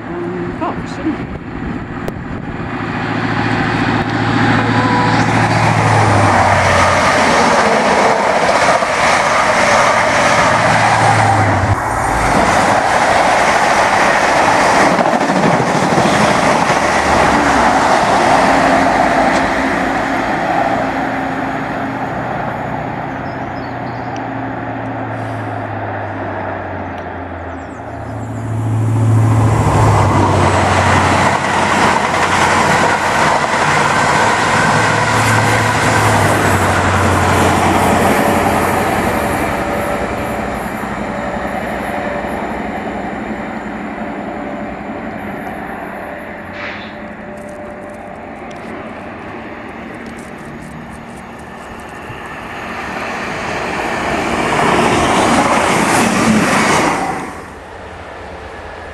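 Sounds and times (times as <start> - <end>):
diesel train engine: 0.0 - 58.9
train wheels on rails: 1.4 - 58.9.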